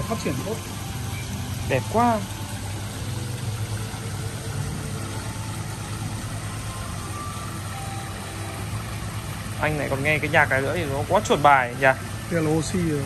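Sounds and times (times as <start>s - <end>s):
bubbling water rushing: 0.0s - 13.0s
pump low hum: 0.0s - 13.0s.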